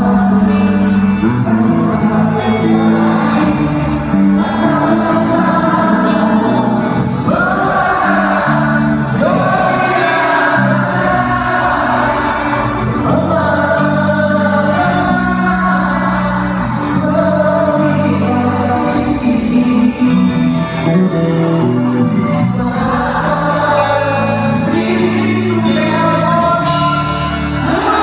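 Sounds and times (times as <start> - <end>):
crowd singing along: 0.0 - 28.0
live rock band: 0.0 - 28.0.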